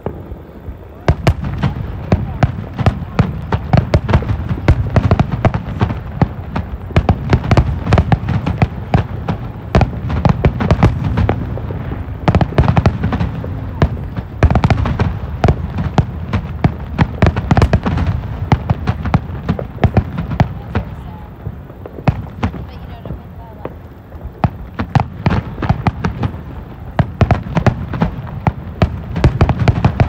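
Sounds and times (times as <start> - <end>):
fireworks bangs and crackling pops: 0.0 - 30.0.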